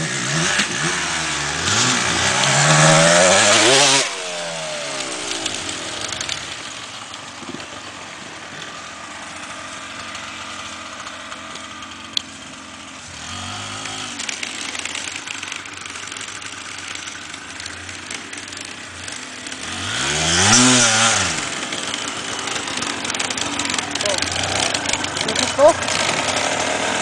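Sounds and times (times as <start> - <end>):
distant dirt bike engines revving: 0.0 - 27.0.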